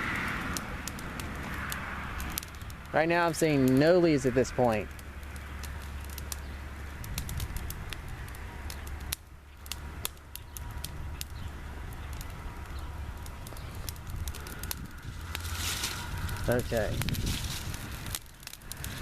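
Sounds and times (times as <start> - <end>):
fire crackling and popping: 0.0 - 19.0
low fire rumble: 0.0 - 19.0.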